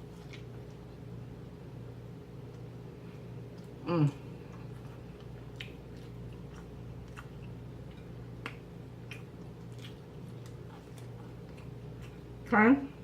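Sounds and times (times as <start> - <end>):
person chewing food: 0.0 - 1.2, 2.4 - 12.5
steady low hum: 0.0 - 13.0.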